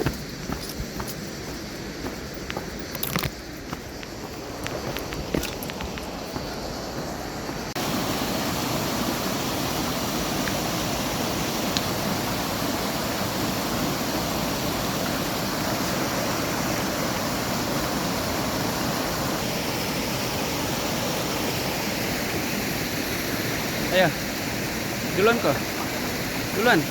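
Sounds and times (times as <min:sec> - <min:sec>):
flowing water rushing: 0:00.0 - 0:26.9.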